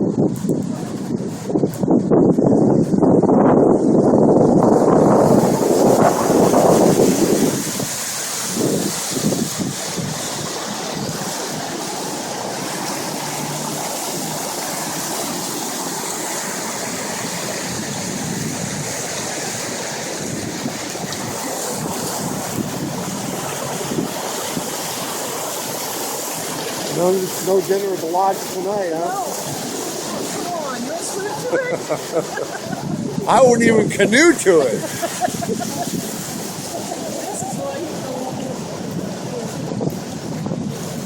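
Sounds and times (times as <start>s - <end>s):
wind buffeting microphone: 0.0s - 41.0s
fast creek water rushing: 4.2s - 41.0s.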